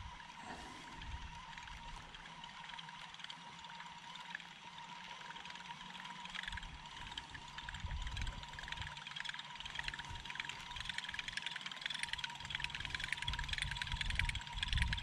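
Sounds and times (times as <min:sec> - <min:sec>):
lure propeller churning water: 0:00.0 - 0:15.0
small clicks: 0:01.5 - 0:15.0.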